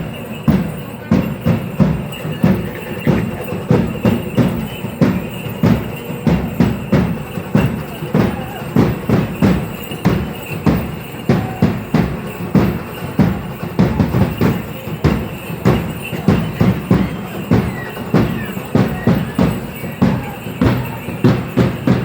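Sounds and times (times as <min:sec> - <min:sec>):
drum beating steady rhythm: 0:00.0 - 0:22.0.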